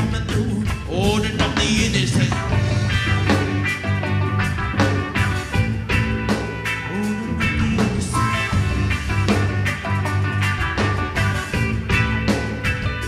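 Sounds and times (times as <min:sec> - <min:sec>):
rock music with drums bass guitar: 0:00.0 - 0:13.0.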